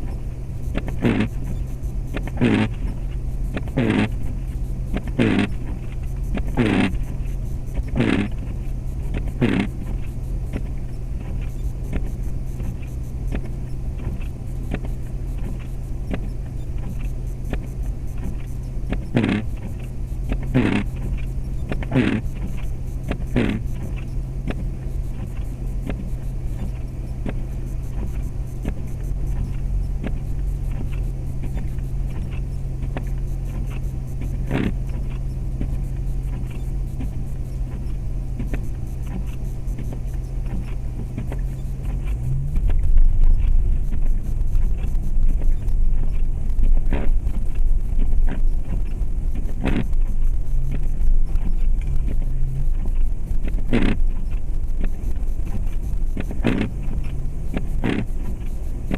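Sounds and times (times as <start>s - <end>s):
car engine and road hum: 0.0s - 58.9s.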